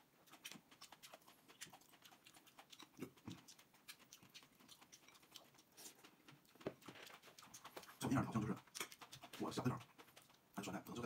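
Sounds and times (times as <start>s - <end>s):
person chewing and lip-smacking: 0.0s - 11.0s.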